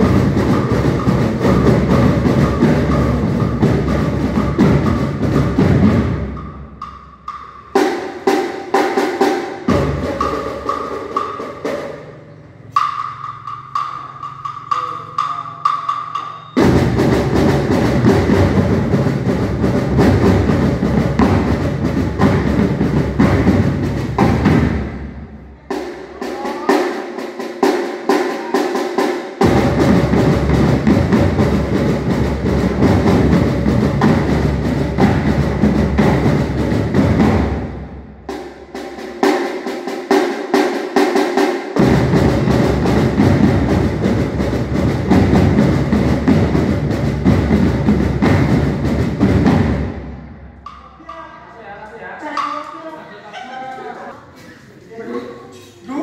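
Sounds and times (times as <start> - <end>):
marching drumline: 0.0 - 51.6.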